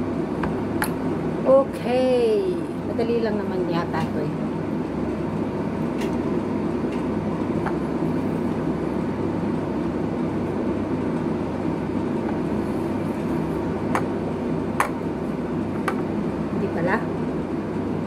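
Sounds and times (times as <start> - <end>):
faint hum: 0.0 - 18.0
low machine rumble: 0.0 - 18.0.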